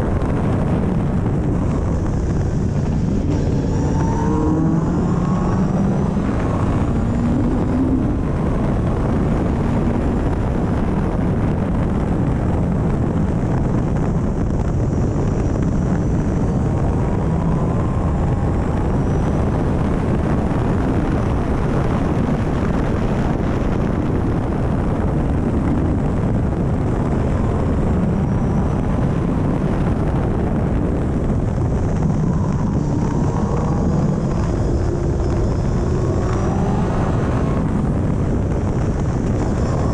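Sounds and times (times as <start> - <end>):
car engine revving: 0.0 - 14.0, 14.9 - 22.4, 24.1 - 39.9
wind rushing: 0.0 - 39.9.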